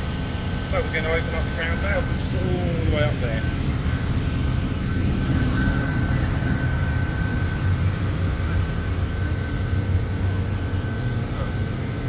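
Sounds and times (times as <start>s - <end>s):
steam boiler rumble and hiss: 0.0s - 12.0s.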